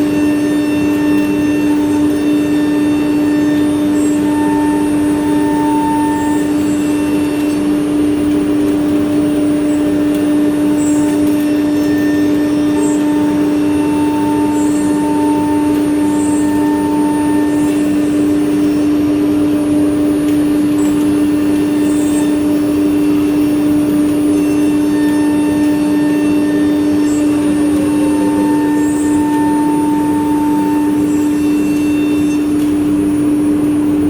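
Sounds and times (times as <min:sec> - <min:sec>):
machine running with steady tone: 0:00.0 - 0:34.0.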